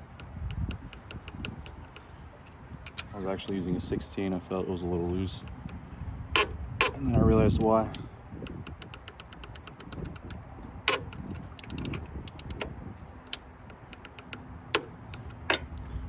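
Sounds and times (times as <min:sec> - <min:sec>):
sharp metal clicks: 0:00.0 - 0:03.6, 0:05.4 - 0:15.9
socket ratchet clicking: 0:00.1 - 0:03.6, 0:06.4 - 0:15.8.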